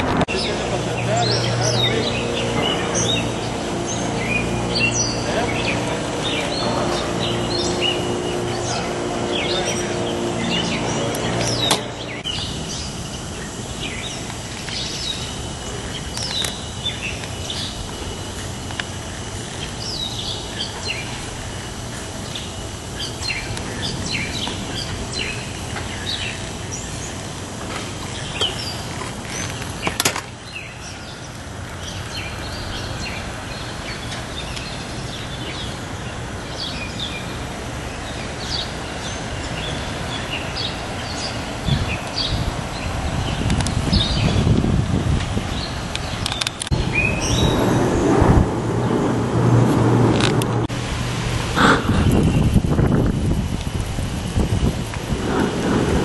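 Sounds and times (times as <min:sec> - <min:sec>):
steady background hiss: 0:00.0 - 0:56.0
small birds chirping: 0:00.3 - 0:44.6, 0:45.4 - 0:48.2, 0:51.6 - 0:53.3.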